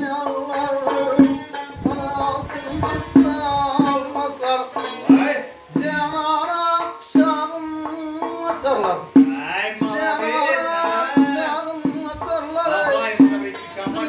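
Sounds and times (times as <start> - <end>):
man singing folk song: 0.0 - 14.0
sharp percussive beats: 0.0 - 14.0
two-string lute playing: 0.0 - 14.0.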